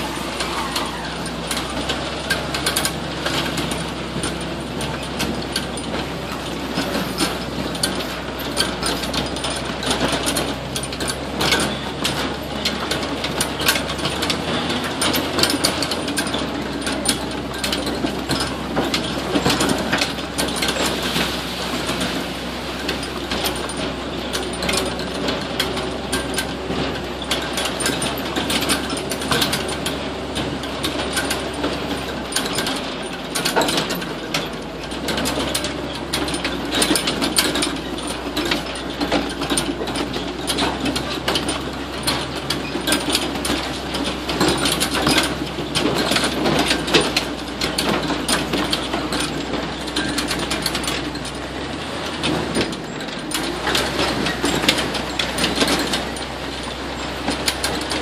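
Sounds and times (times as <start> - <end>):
vehicle engine running: 0.0 - 58.0
vehicle rattles and knocks: 0.0 - 58.0.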